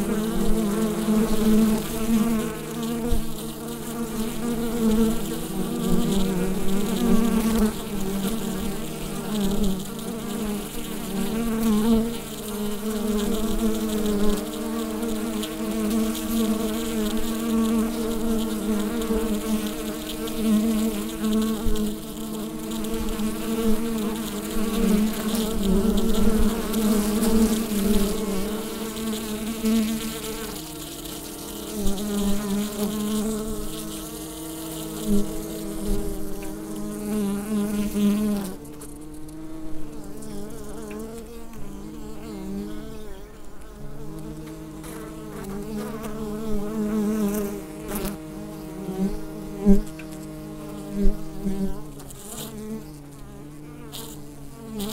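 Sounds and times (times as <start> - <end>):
bees buzzing in a hive: 0.0 - 54.9.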